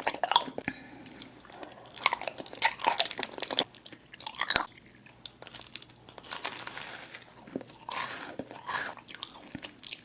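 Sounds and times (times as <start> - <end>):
wet chewing: 0.0 - 6.3, 7.3 - 10.0.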